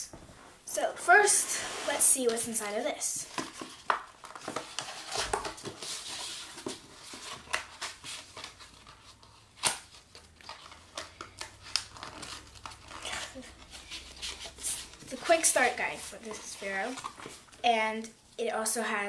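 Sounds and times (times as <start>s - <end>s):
cardboard and paper rustling: 1.3s - 17.6s.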